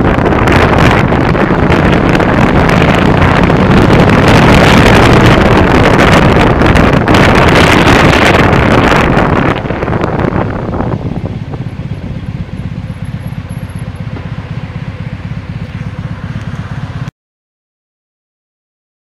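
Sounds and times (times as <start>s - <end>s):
low engine rumble: 0.0s - 17.1s
wind buffeting microphone: 0.0s - 17.1s.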